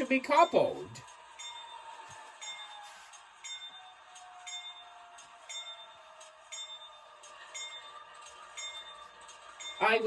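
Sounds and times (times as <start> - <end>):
locomotive bell ringing: 0.0 - 10.0.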